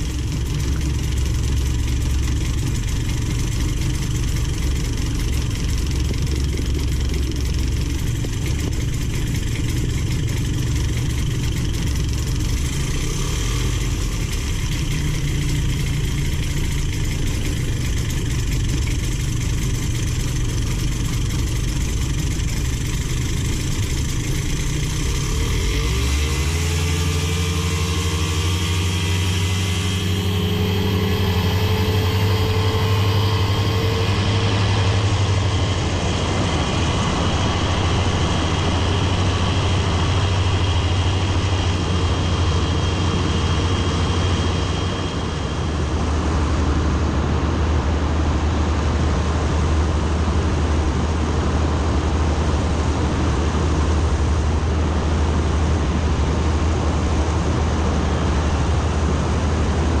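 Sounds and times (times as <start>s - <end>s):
engine and propeller running: 0.0s - 60.0s.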